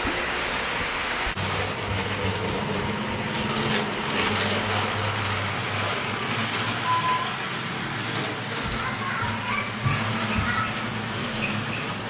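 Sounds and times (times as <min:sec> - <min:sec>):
model train motor hum: 0:00.0 - 0:12.0
wheels rolling on rails: 0:00.0 - 0:12.0.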